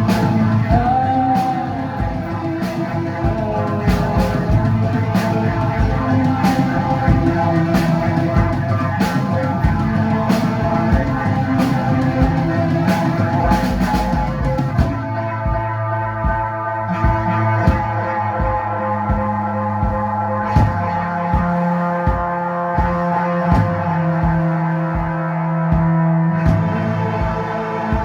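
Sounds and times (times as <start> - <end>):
drum kit with cymbal crashes: 0.0 - 28.0.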